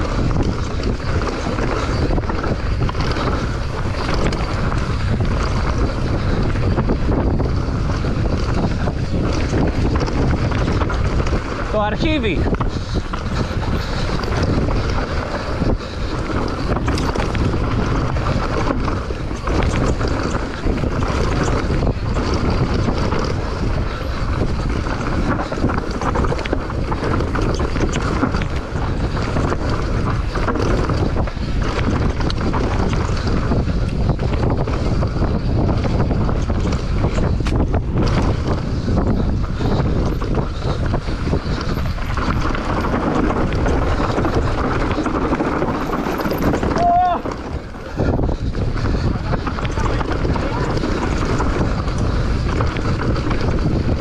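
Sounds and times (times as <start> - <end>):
bike knocks and rattles: 0.0 - 54.0
tyres rumbling on dirt trail: 0.0 - 54.0
wind buffeting microphone: 0.0 - 54.0.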